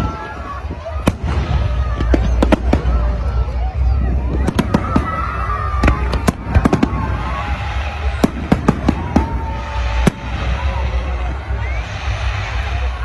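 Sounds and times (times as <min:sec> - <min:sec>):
fireworks cracking and banging: 0:00.0 - 0:13.0.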